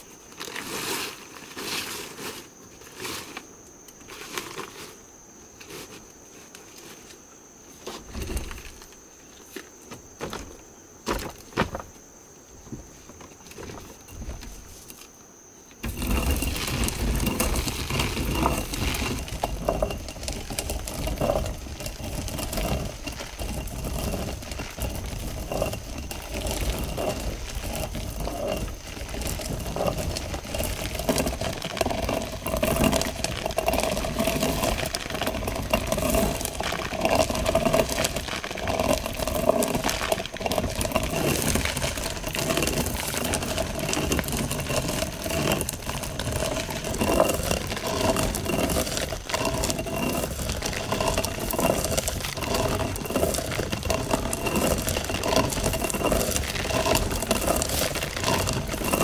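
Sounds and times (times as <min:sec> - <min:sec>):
stone quern grinding corn: 0:00.0 - 0:07.1, 0:15.8 - 0:59.0.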